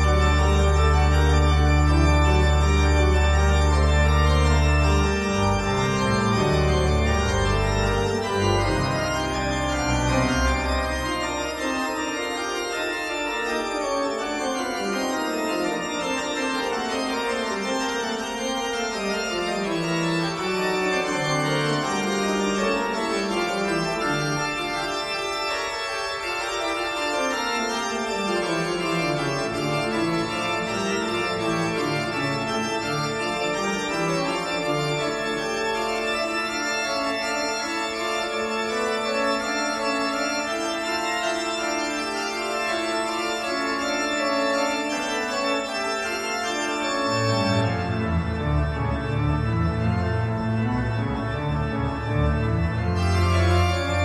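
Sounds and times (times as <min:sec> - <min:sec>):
organ chords: 0:00.0 - 0:54.0.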